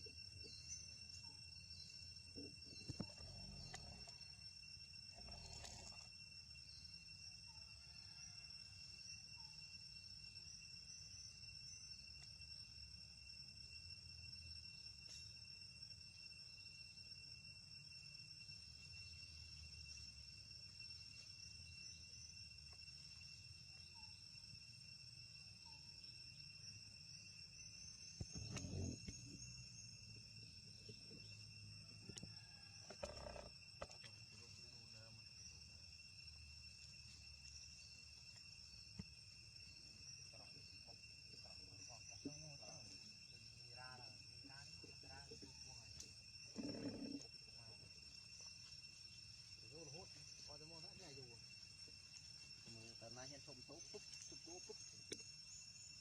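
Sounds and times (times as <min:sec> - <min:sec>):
high-pitched insect trilling: 0:00.0 - 0:56.0.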